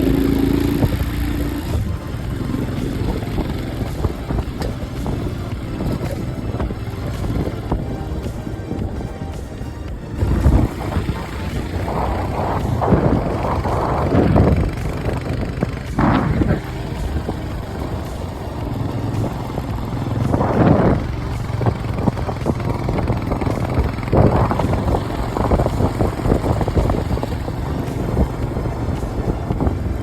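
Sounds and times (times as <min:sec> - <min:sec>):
motorcycle engine rumble: 0:00.0 - 0:30.0
wind gusting over microphone: 0:00.0 - 0:30.0.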